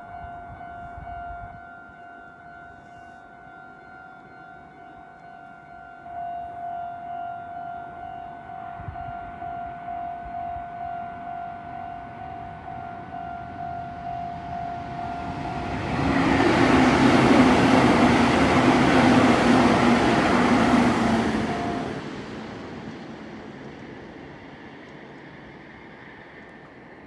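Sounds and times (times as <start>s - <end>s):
crossing warning bell: 0.0s - 22.9s
train passing over crossing: 0.0s - 27.0s.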